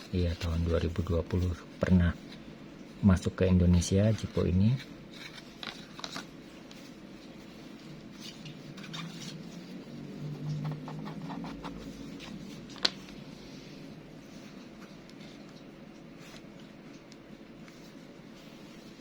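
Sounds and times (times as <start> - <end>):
hands rubbing and scraping packaging: 0.0 - 2.5, 3.1 - 19.0.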